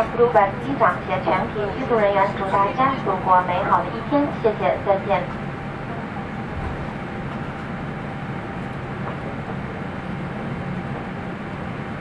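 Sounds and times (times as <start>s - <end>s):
aircraft cabin low hum: 0.0s - 12.0s.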